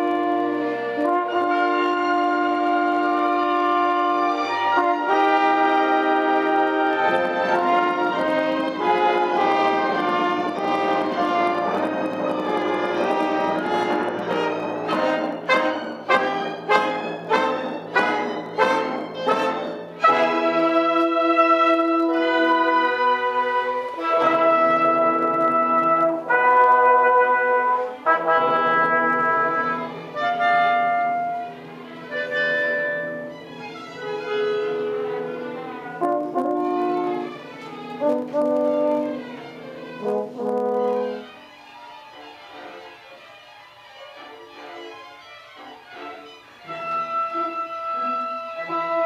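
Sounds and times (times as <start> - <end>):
orchestra playing: 0.0 - 49.0.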